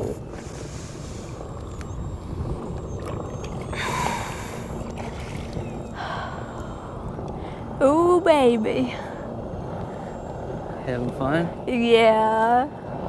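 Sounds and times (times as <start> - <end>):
water around kayak hull: 0.0 - 13.0
wind on microphone: 0.0 - 13.0.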